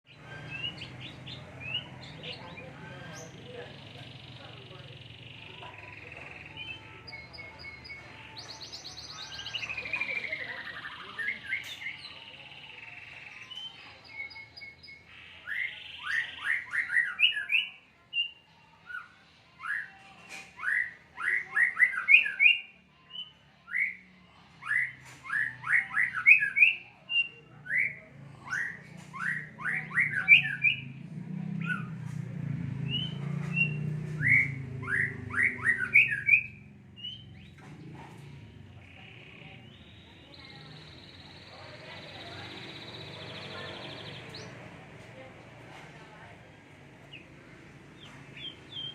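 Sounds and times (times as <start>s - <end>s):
songbird singing: 0.0s - 48.9s.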